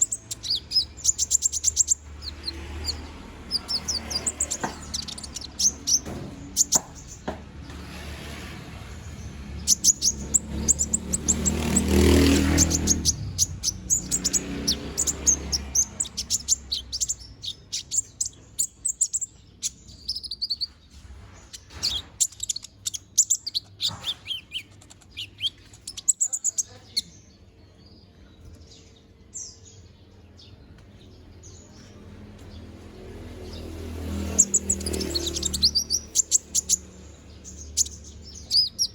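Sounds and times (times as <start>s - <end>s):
sunbird chirping and twittering: 0.0s - 38.9s.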